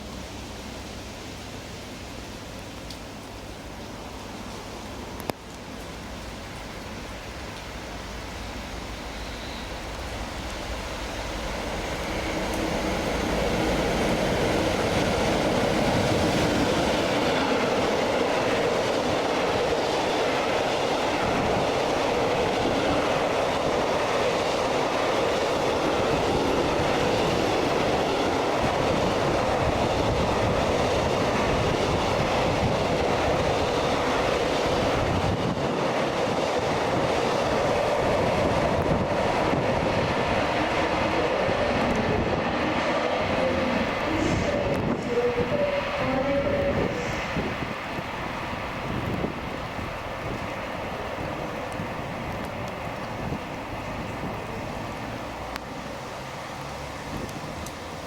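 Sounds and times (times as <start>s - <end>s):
train wheels on rails: 3.9s - 58.0s.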